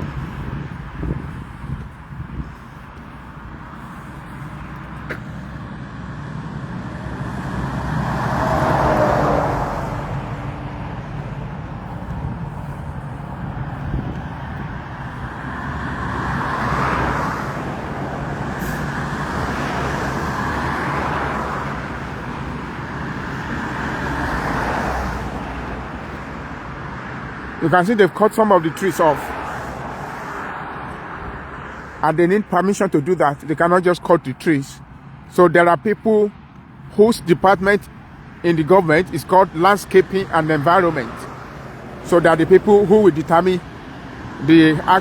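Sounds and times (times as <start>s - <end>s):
cars passing by: 0.0s - 45.0s
low traffic rumble: 0.0s - 45.0s.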